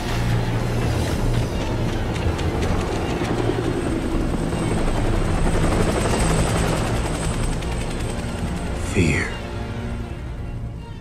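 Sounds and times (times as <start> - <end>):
helicopter-like rumbling drone: 0.0 - 11.0.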